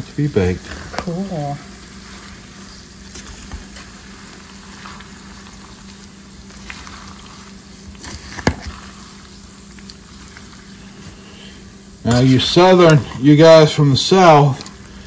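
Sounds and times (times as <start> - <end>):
lard sizzling in a saucepan: 0.0 - 15.0
steady low hum: 0.0 - 15.0.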